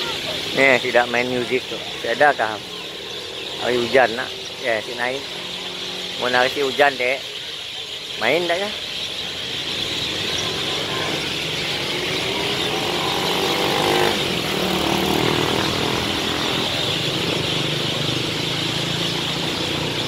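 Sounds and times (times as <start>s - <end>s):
motorcycle engine revving: 0.0s - 20.0s
traffic engines running: 0.0s - 20.0s.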